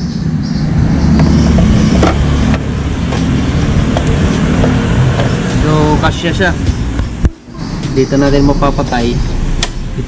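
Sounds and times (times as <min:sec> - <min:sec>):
traffic rumbling past: 0:00.0 - 0:10.0.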